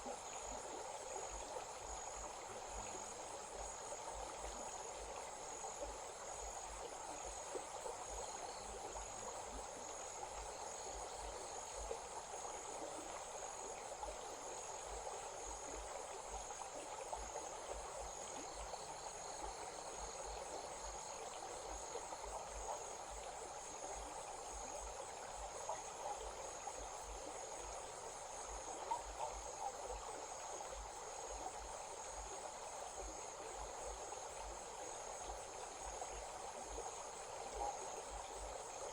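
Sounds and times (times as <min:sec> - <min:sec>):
running stream: 0:00.0 - 0:38.9.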